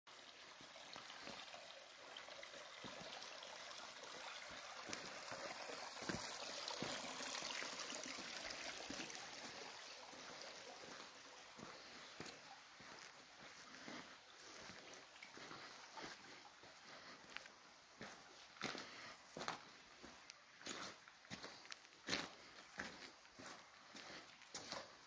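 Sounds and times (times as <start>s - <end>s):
stream trickling over stones: 0.1s - 25.0s.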